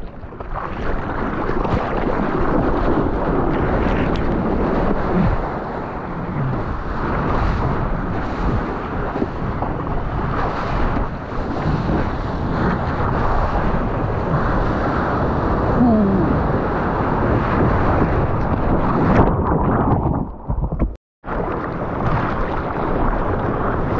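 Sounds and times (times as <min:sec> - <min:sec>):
wind buffeting microphone: 0:00.0 - 0:23.9
seawater rushing and splashing: 0:00.2 - 0:20.6, 0:21.3 - 0:23.9.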